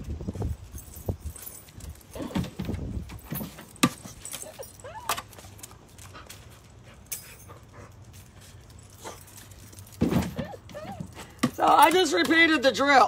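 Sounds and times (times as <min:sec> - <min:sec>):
keys jangling: 0:00.3 - 0:12.2.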